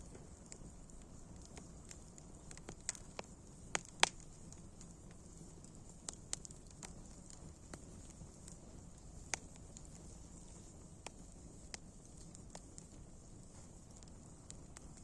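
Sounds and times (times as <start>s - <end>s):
low fire rumble: 0.0s - 15.0s
wood fire popping and snapping: 0.0s - 15.0s.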